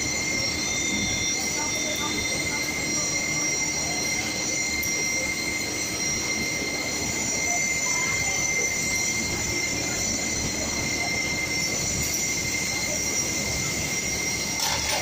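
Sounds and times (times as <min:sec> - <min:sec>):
factory machinery din: 0:00.0 - 0:15.0
high-pitched machine whines: 0:00.0 - 0:15.0.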